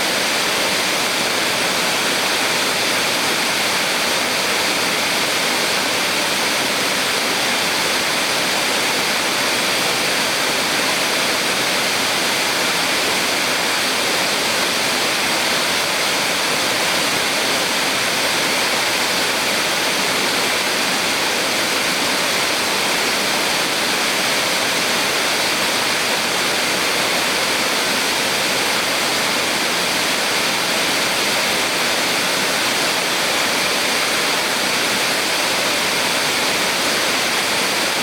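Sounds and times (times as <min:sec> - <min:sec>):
small waterfall rushing: 0:00.0 - 0:38.0.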